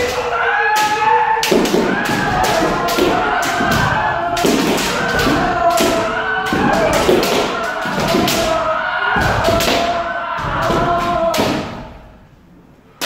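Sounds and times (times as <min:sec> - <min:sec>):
bamboo swords striking: 0:00.0 - 0:12.0
people shouting: 0:00.0 - 0:12.3.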